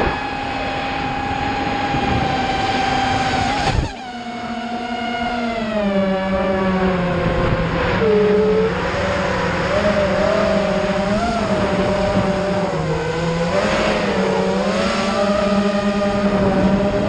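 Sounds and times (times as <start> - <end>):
quadcopter motors whining: 0.0 - 17.0
steady rushing noise: 0.0 - 17.0.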